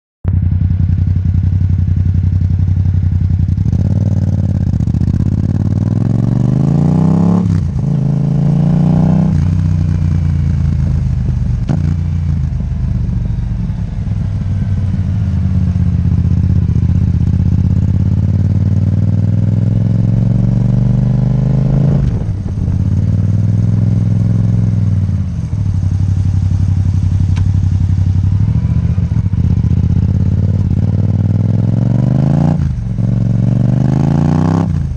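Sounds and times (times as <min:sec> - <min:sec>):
motorcycle engine revving: 0:00.3 - 0:34.9.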